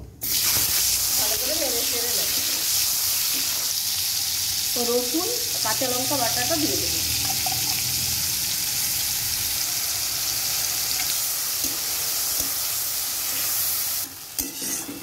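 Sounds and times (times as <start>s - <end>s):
paste sizzling in oil: 0.2s - 15.0s.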